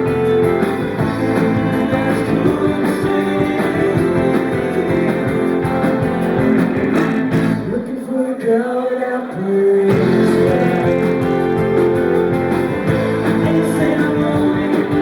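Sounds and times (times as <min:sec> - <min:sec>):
electric guitar lead: 0:00.0 - 0:07.9, 0:09.9 - 0:15.0
live band playing pop-rock: 0:00.0 - 0:08.0, 0:09.9 - 0:15.0.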